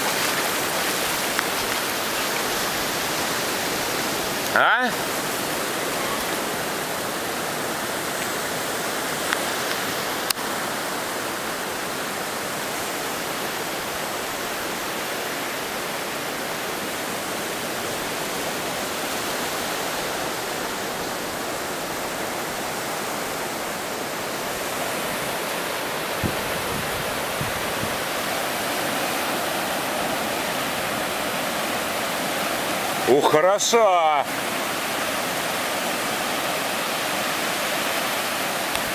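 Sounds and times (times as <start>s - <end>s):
surf breaking on beach: 0.0s - 10.4s, 12.6s - 38.9s.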